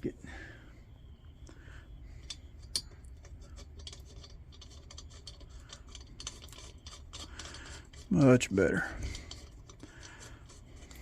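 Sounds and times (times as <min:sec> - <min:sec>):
metal lantern parts clicking: 0:02.1 - 0:11.0
faint scratching: 0:02.2 - 0:11.0.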